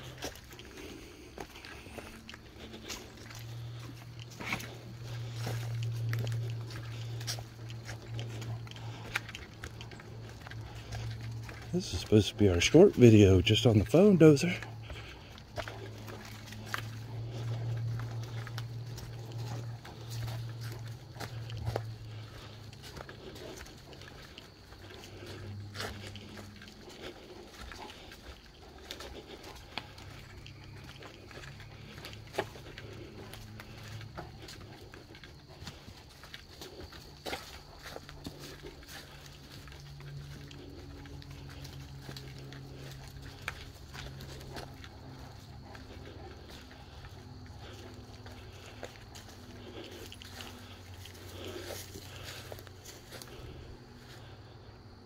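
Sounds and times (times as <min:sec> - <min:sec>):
dog sniffing and breathing: 0:00.0 - 0:12.5, 0:14.5 - 0:54.7
footsteps: 0:00.0 - 0:54.9
steady low hum: 0:00.0 - 0:55.0.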